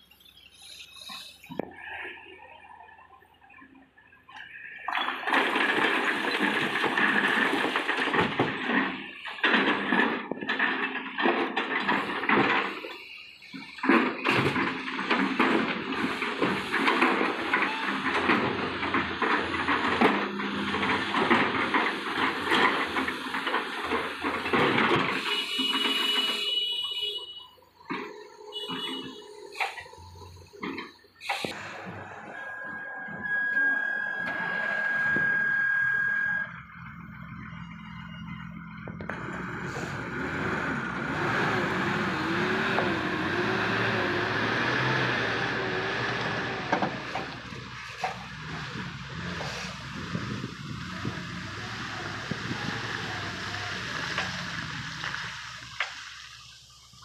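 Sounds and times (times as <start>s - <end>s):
diesel truck pulling away: 0.0s - 26.4s, 27.5s - 57.0s.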